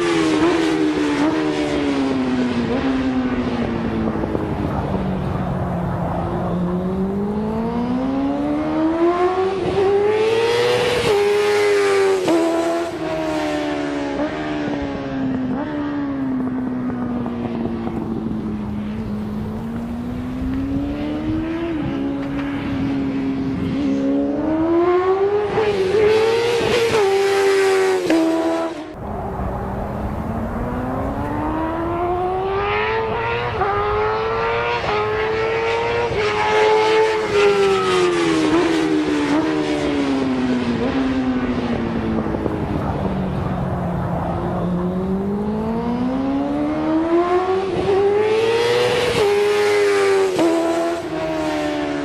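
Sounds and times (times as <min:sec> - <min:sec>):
motorcycle engine shifting gears: 0:00.0 - 0:52.0.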